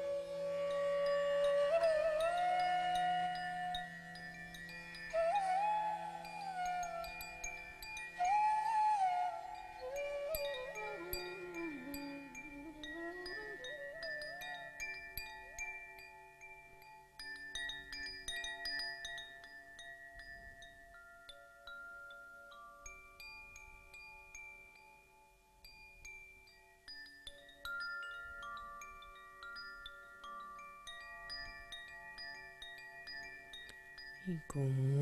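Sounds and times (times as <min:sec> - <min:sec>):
wind chime ringing: 0:00.0 - 0:35.0.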